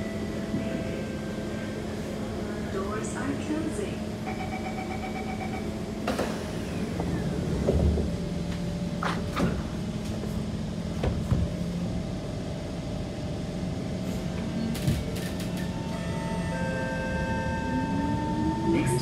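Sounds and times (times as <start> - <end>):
metro train running rumble: 0.0 - 19.0.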